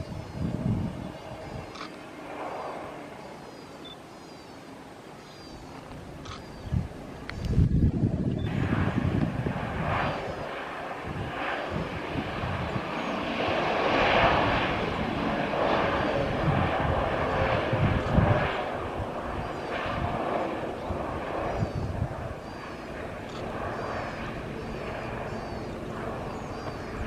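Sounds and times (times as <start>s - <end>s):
wind buffeting microphone: 0.0s - 1.9s, 5.9s - 27.0s
jet airliner passing: 0.0s - 27.0s.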